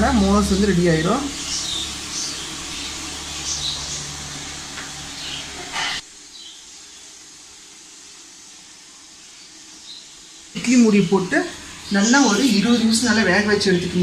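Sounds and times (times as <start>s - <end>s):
steamer hissing: 0.0s - 14.0s.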